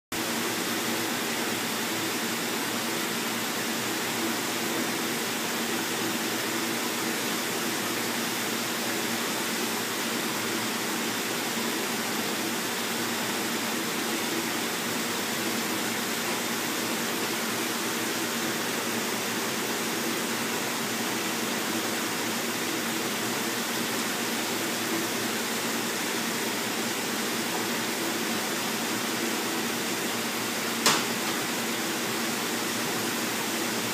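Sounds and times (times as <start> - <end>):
water pouring from pipe into tank: 0.2 - 30.7.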